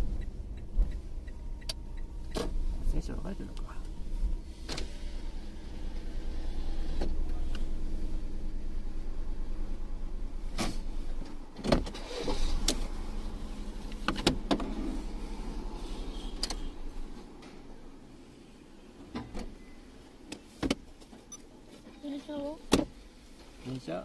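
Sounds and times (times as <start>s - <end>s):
car engine idling: 0.0s - 23.5s.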